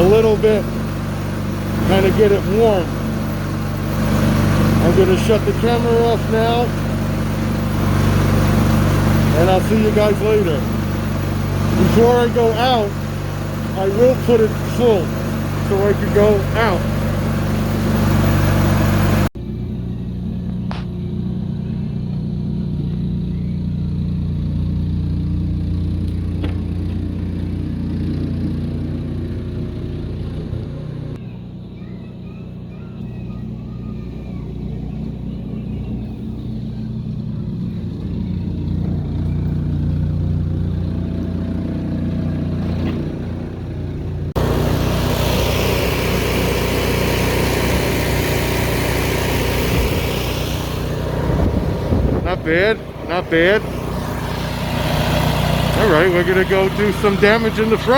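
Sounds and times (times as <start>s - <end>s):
snow blower engine running: 0.0s - 57.9s.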